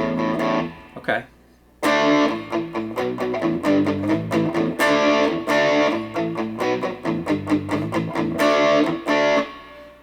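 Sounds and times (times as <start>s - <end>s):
distorted electric guitar riff: 0.0s - 1.0s, 1.8s - 10.0s.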